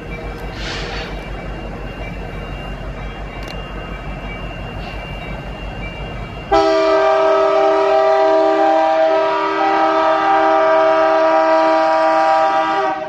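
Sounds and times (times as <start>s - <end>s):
locomotive low drone: 0.0s - 10.6s
freight train rumbling past: 0.0s - 13.0s.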